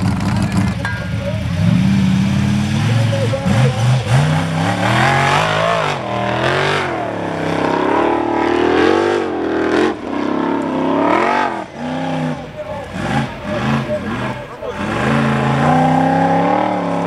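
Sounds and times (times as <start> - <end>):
car engine revving hard: 0.0 - 17.0.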